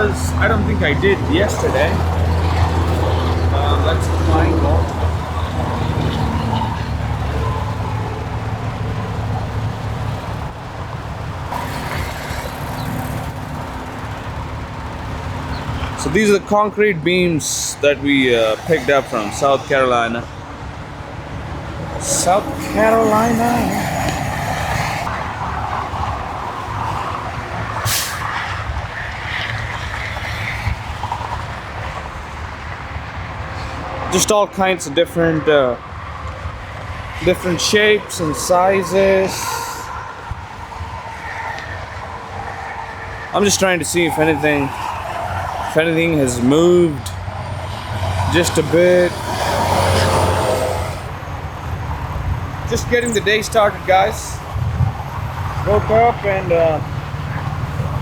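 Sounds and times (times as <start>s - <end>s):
diesel trucks idling: 0.0s - 28.8s, 30.8s - 58.0s
highway traffic: 0.0s - 58.0s.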